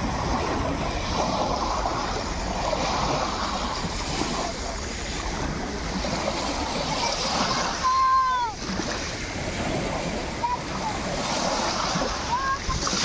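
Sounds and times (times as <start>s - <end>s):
waves washing over pebbles: 0.0s - 13.0s
wind rumble on microphone: 0.0s - 13.0s.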